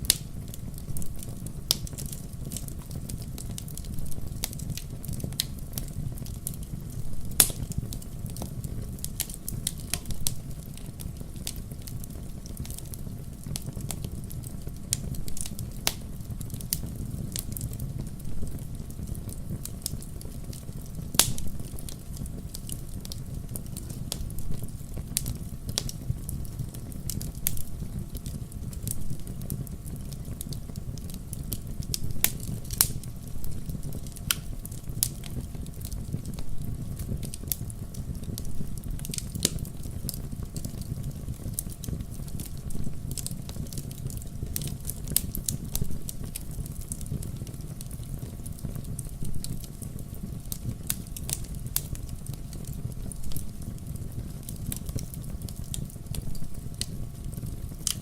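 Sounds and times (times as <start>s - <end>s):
fire popping and snapping: 0.0s - 58.0s
fireplace fire crackling: 0.0s - 58.0s.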